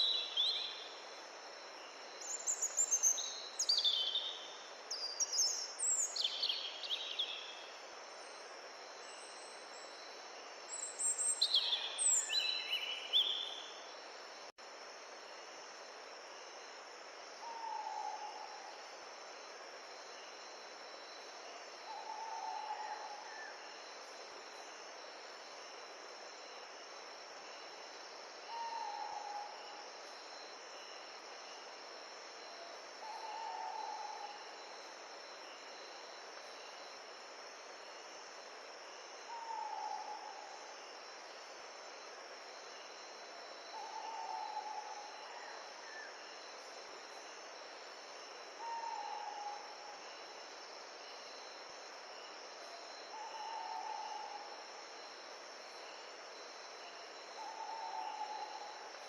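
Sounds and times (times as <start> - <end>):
insects chirping chorus: 0.0 - 59.0.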